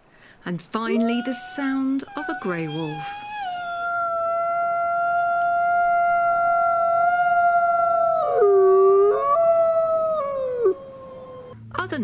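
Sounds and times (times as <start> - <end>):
wolf howling: 0.9 - 11.6.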